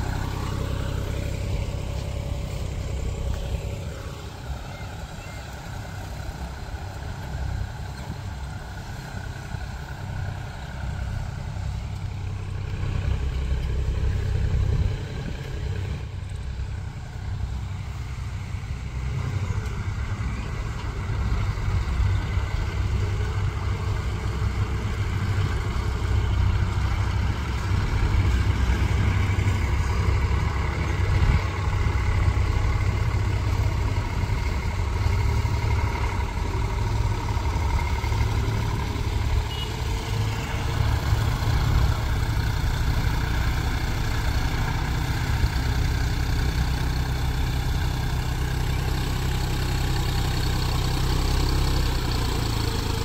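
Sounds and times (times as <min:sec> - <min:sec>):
high engine whine: 0:00.0 - 0:53.0
tractor diesel engines rumbling: 0:00.0 - 0:53.0.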